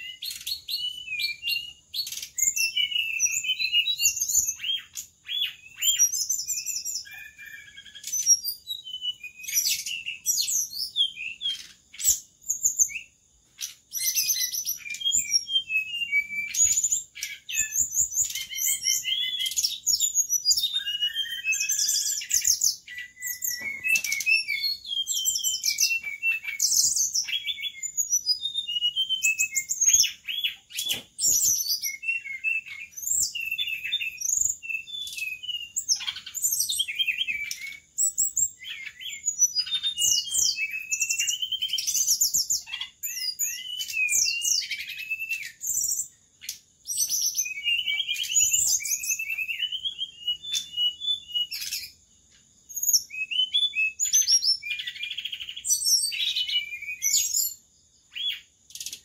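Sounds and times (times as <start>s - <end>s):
songbird chirping and trilling: 0.0s - 59.0s.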